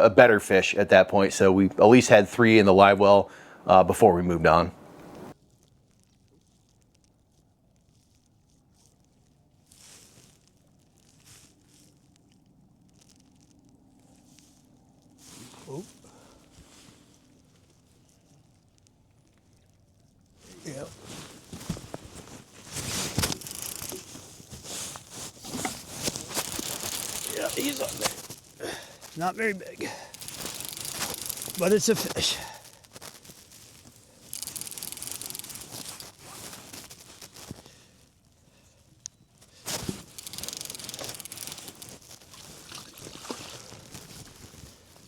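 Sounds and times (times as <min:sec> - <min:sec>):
fishing gear rustling and scraping: 0:04.9 - 0:45.0.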